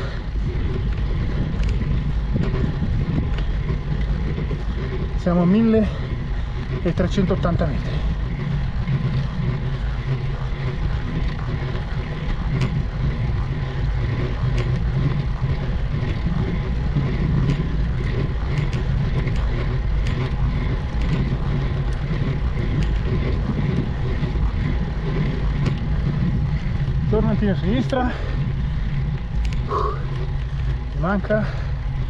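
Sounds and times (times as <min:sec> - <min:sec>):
bicycle low rumble: 0:00.0 - 0:32.0.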